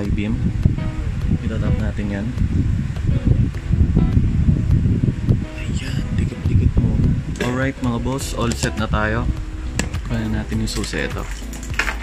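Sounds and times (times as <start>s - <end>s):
low rumble: 0.0s - 11.8s
background music: 0.0s - 12.0s.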